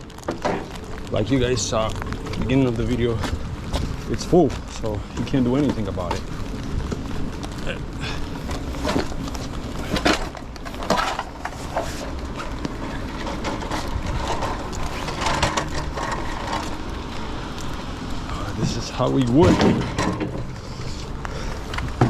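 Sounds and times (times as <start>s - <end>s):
knocks and scrapes: 0.0s - 17.8s, 18.4s - 22.0s
steady low rumble: 0.0s - 22.0s.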